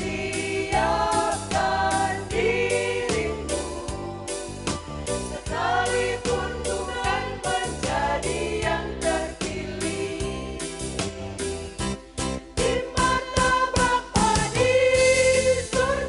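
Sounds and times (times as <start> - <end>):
vocal group singing in harmony: 0.0 - 11.2, 12.6 - 16.0
instrumental accompaniment with beat: 0.0 - 16.0.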